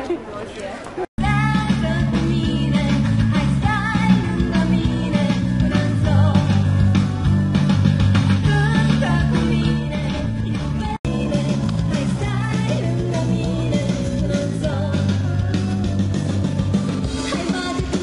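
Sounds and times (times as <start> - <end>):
pop-rock song with singing: 1.2 - 18.0.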